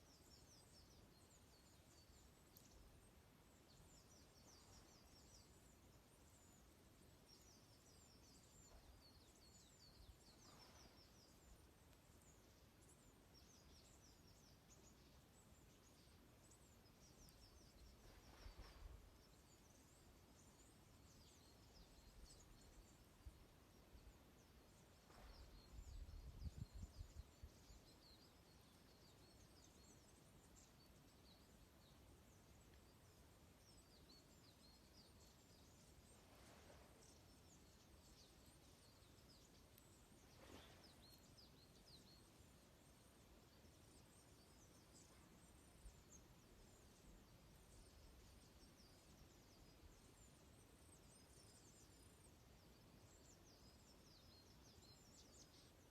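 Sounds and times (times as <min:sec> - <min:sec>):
flock of small birds twittering: 0:00.0 - 0:55.9.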